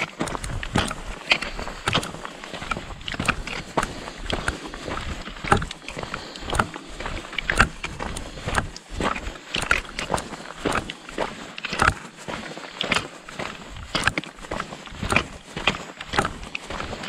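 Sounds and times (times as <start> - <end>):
boots crunching on gravel: 0.0 - 17.0
walking stick tips clicking on stones: 0.0 - 17.0.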